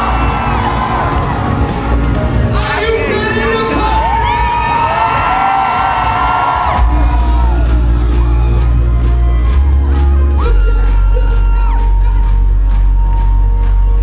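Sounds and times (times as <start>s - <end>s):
electronic dance music: 0.0s - 14.0s
heavy bass and steady beat: 0.0s - 14.0s.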